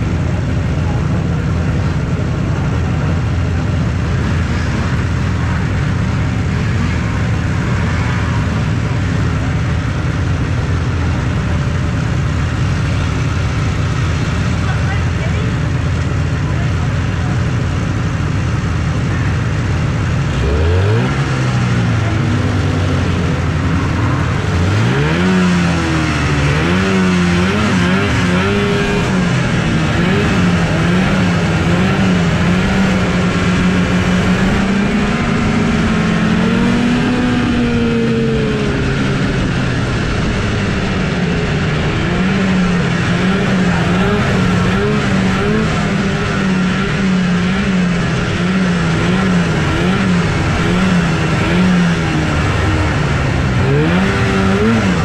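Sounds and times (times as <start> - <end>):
other snowmobile engines: 0.0 - 55.0
snowmobile engine revving: 0.0 - 55.0.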